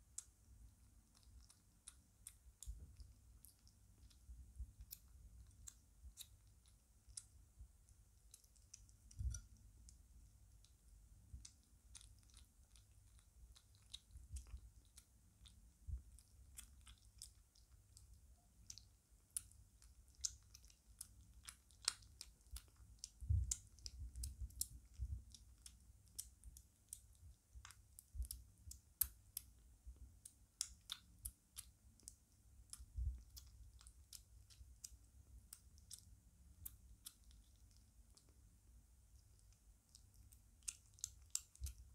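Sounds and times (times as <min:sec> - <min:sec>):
kitten chewing and smacking: 0:00.0 - 0:41.9.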